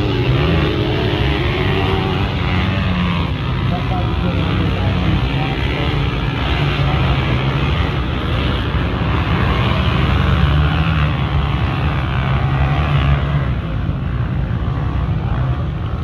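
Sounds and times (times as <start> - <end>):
motocross motorcycle engines running: 0.0 - 16.0.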